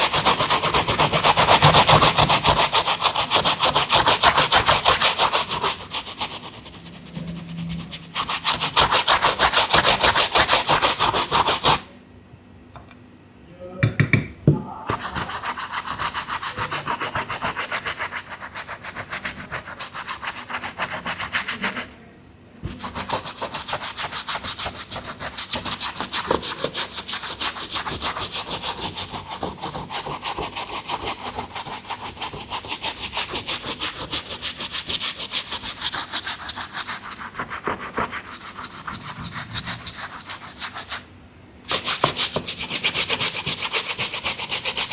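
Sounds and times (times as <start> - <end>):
brush scrubbing a sneaker: 0.0 - 11.8, 14.9 - 22.0, 22.7 - 41.0, 41.7 - 44.9.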